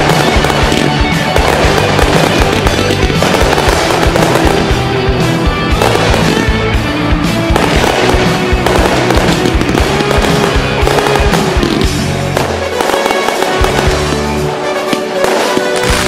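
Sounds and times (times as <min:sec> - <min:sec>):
fireworks banging and crackling: 0:00.0 - 0:16.0
music with long held notes: 0:00.0 - 0:16.0.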